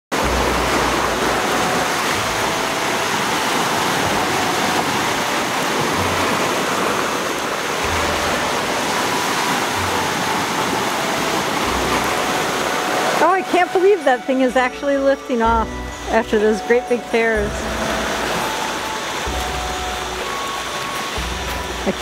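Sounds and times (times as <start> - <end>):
ocean surf over rocks: 0.1 - 22.0.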